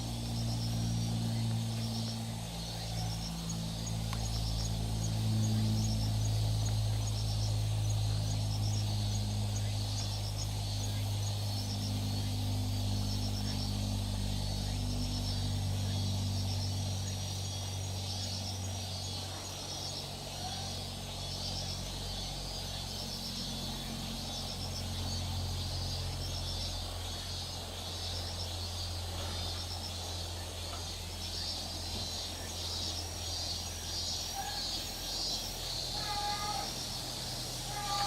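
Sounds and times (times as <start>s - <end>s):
insects chirping in trills: 0.0s - 38.0s
steady low hum: 0.0s - 38.0s.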